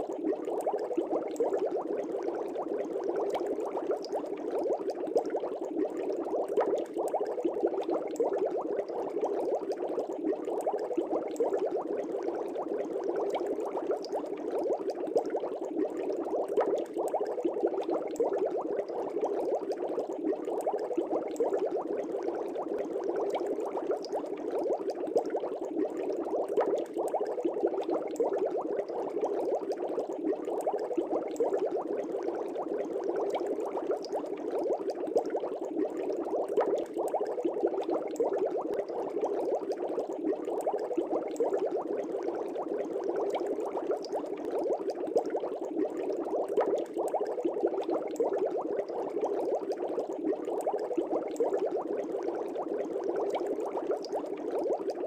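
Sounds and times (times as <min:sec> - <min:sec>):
aquarium water bubbling: 0:00.0 - 0:55.0.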